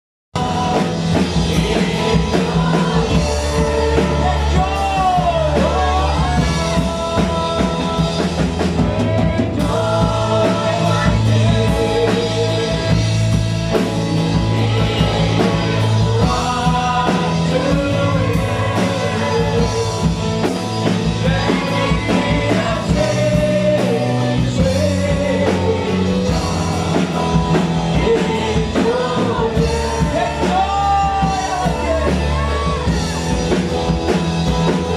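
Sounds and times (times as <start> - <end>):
rock band backing: 0.3 - 34.9
person singing: 0.4 - 33.8.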